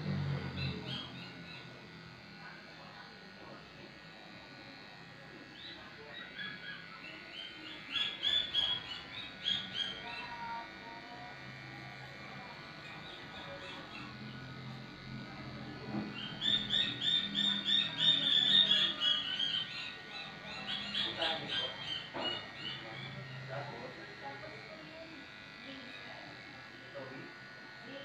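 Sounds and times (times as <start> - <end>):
electric pet clippers running: 0.0 - 28.0.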